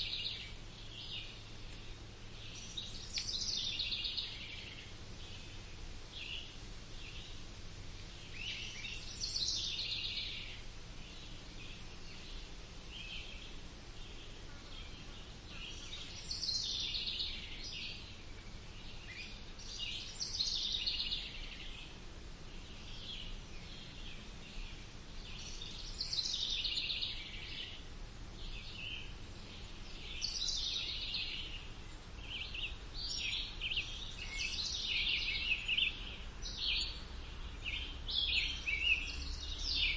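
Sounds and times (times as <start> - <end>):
faint low background hum: 0.0 - 39.9
songbirds singing: 0.0 - 39.9.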